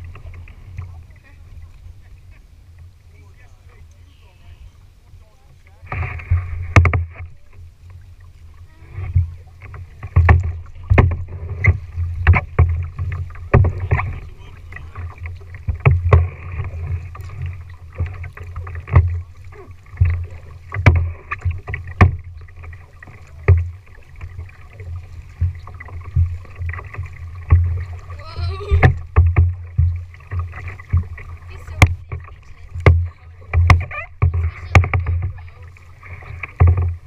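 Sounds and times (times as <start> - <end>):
low rumble through hull: 0.0 - 37.0
paddle strokes knocking and splashing: 0.0 - 37.0.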